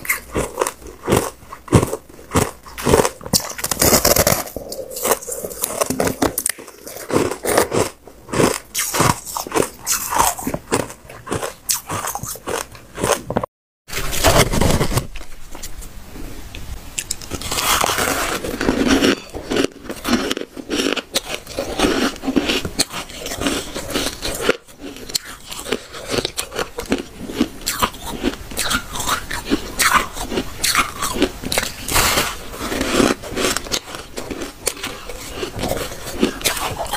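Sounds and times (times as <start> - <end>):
chewing ice crunches: 0.0 - 13.4, 17.0 - 36.9.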